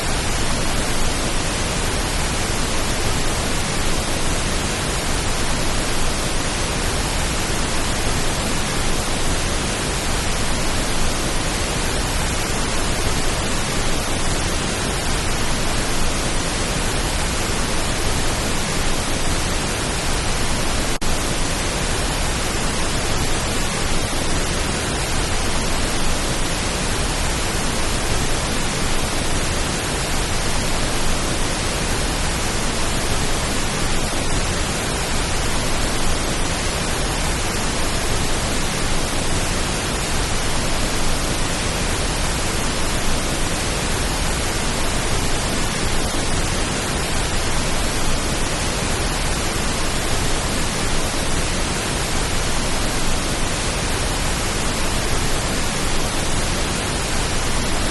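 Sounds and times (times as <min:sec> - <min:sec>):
steady pink noise hiss: 0:00.0 - 0:57.9.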